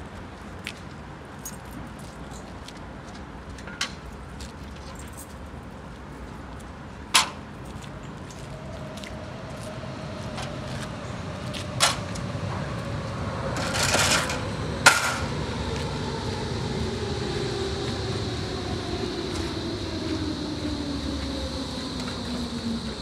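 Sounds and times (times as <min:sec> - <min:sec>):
train running hum: 0:00.0 - 0:23.0.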